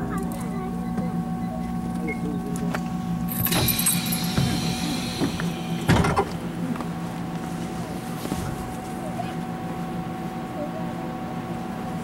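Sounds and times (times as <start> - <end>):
train electric hum: 0.0 - 12.0.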